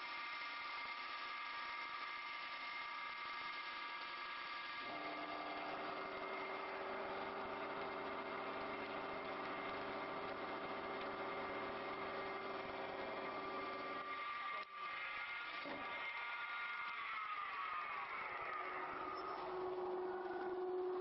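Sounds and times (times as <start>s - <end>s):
wood lathe motor hum: 0.0s - 21.0s.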